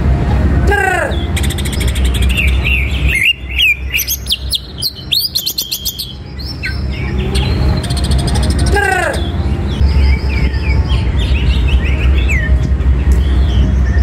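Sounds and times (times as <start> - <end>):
bird singing trills and whistles: 1.1 - 14.0.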